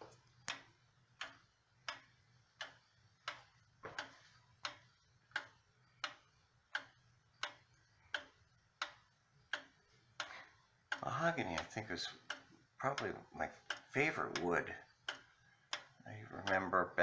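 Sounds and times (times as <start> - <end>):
wall clock ticking: 0.0 - 17.0.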